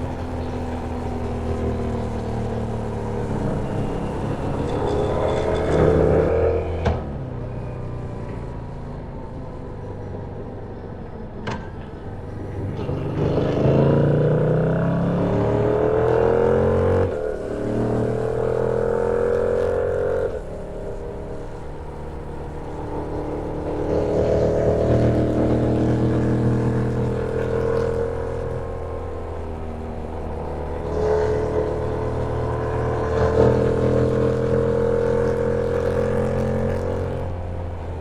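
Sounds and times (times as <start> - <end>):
motorcycle engine accelerating: 0.0 - 8.6, 12.0 - 38.0.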